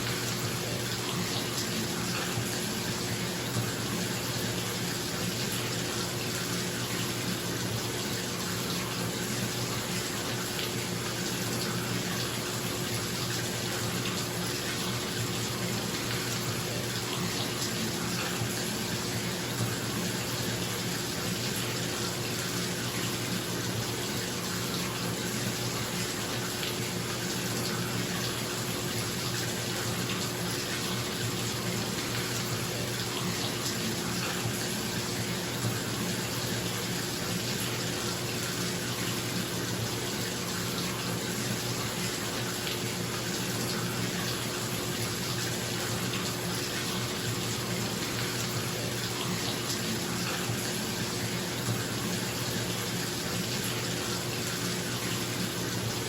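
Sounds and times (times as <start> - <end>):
bathtub tap running: 0.0 - 56.0.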